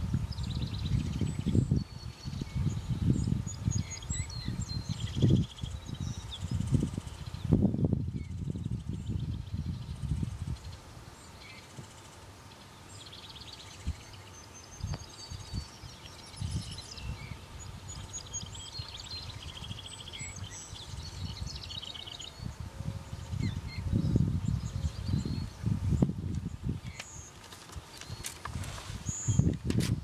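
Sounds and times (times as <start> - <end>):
wind gusts on microphone: 0.0 - 12.0, 13.6 - 30.0
birds chirping and trilling: 0.0 - 29.8.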